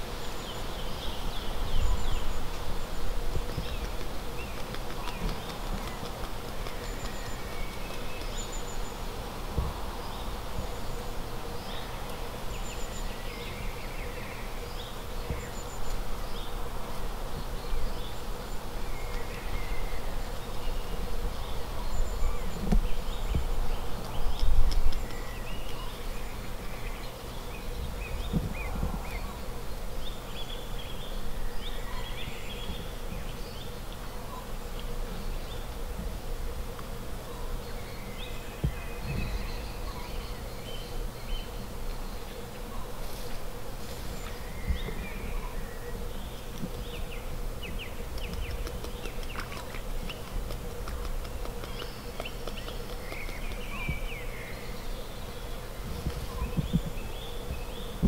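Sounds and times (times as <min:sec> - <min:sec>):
small birds chirping: 0:00.0 - 0:58.0
steady low hum: 0:00.0 - 0:58.0.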